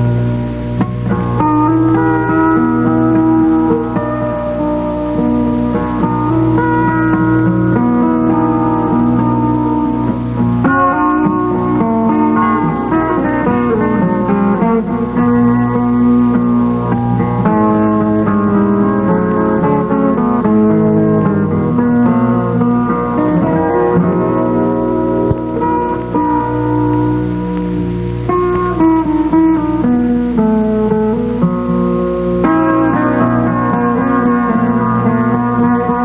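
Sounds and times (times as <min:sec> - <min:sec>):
plucked guitar music: 0:00.0 - 0:36.0.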